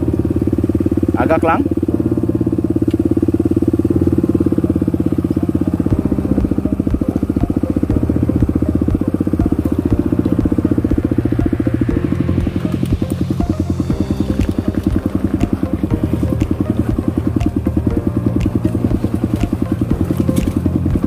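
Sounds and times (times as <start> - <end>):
dirt bike engine at low revs: 0.0 - 21.0.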